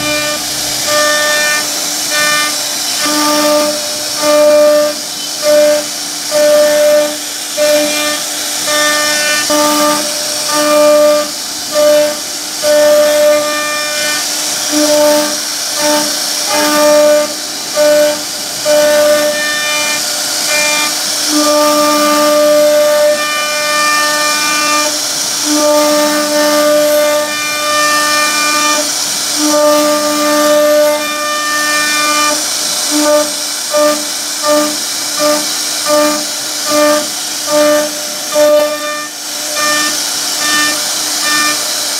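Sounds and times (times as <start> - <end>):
router cutting hiss: 0.0 - 41.9
router spindle humming tone: 0.0 - 41.9.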